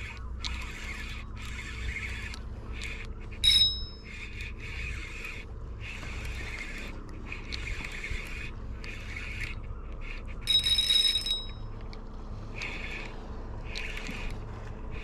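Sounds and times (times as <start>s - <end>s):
fishing reel whirring: 0.0s - 15.0s.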